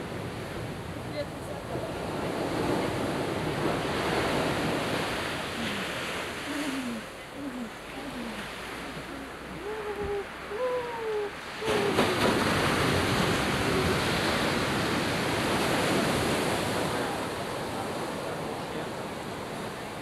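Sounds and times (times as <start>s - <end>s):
surf rushing: 0.0s - 20.0s
wind: 0.0s - 20.0s.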